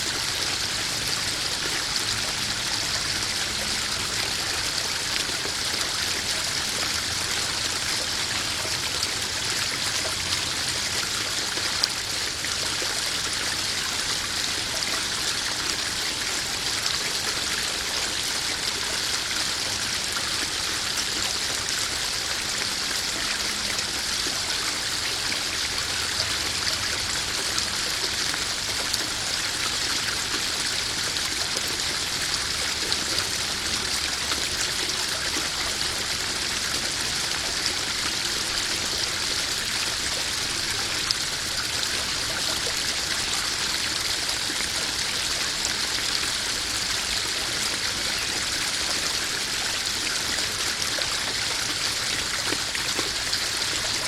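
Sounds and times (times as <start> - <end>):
garden waterfall splashing into pond: 0.0 - 54.0.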